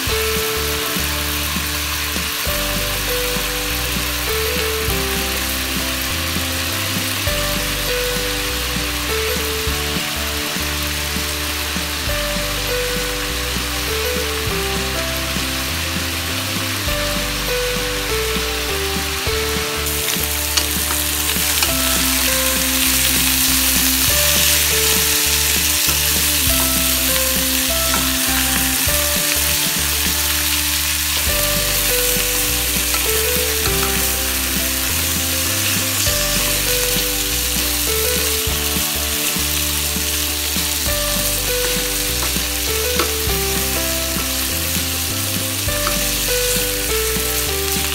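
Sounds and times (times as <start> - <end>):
light background music: 0.0 - 47.9
meat sizzling in a pan: 0.0 - 47.9.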